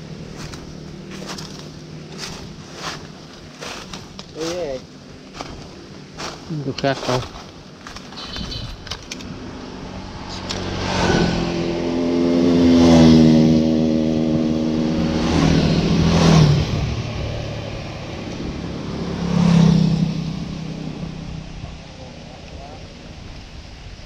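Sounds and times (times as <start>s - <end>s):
small motorbikes passing by: 0.0s - 4.8s, 7.9s - 24.0s.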